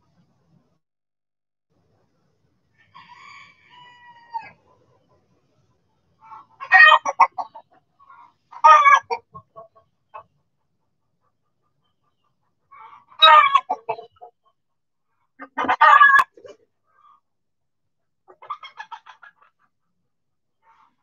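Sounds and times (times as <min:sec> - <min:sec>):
chickens clucking and squawking: 0:02.7 - 0:17.3, 0:18.0 - 0:21.0.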